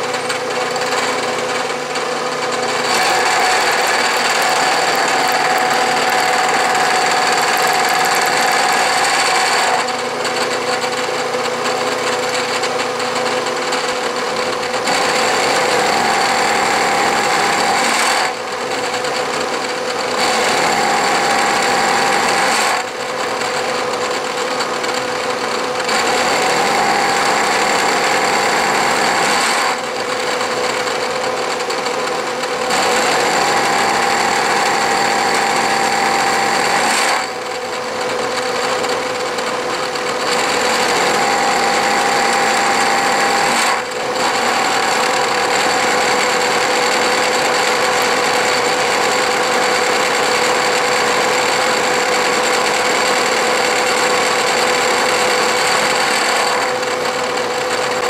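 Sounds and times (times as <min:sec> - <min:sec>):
milling cutter cutting steel: 0:00.0 - 0:58.0.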